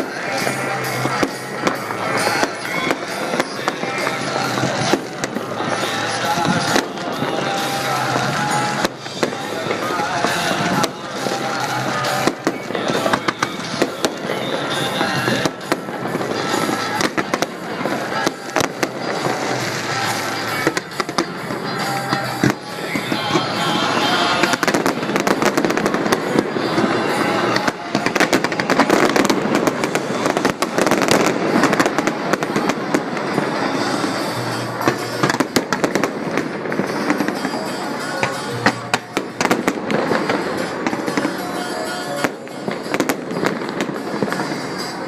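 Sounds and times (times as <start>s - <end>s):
fireworks bursting and popping: 0.0s - 45.0s
music playing: 0.0s - 45.0s.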